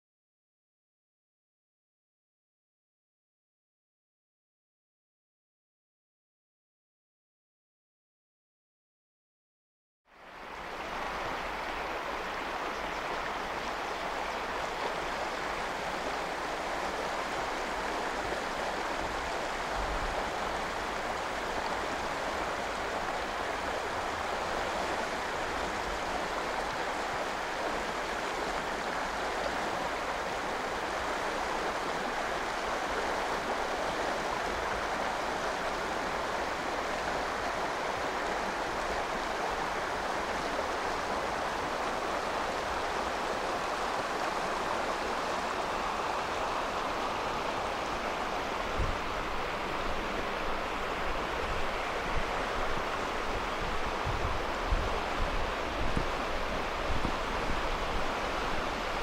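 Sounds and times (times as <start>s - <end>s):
river water rushing: 10.1s - 59.0s.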